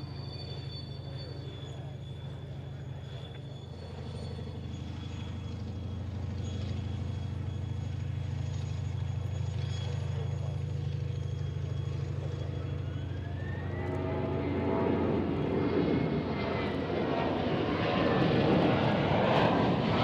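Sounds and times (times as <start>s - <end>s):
aircraft engine hum: 0.0s - 20.0s
rising engine whine: 0.0s - 20.0s.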